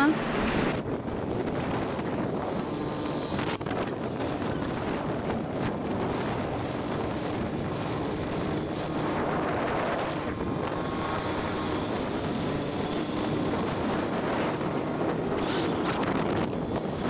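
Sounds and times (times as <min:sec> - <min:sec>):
wind rush on microphone: 0:00.0 - 0:17.0
scooter engine humming: 0:00.8 - 0:17.0.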